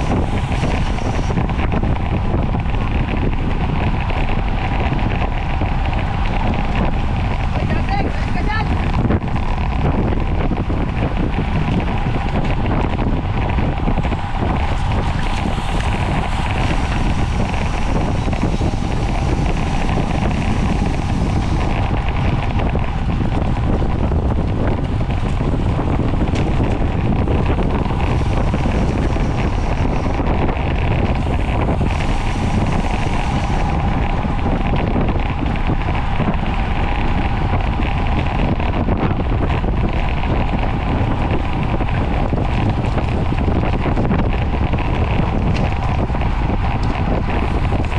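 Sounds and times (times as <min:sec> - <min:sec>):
road noise: 0:00.0 - 0:47.9
wind rushing over microphone: 0:00.0 - 0:47.9.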